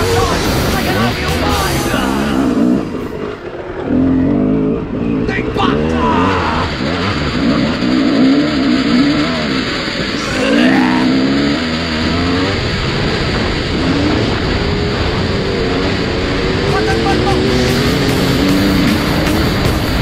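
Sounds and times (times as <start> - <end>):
dirt bike engine revving: 0.0 - 20.0
rushing noise: 0.0 - 20.0.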